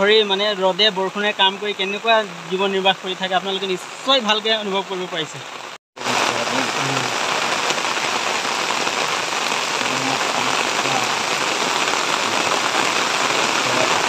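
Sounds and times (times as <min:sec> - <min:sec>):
heavy rain on bushes: 0:00.0 - 0:14.0.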